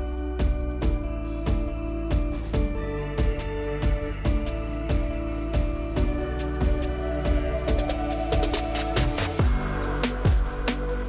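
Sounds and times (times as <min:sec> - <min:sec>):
deep kick drum beat: 0:00.0 - 0:11.0.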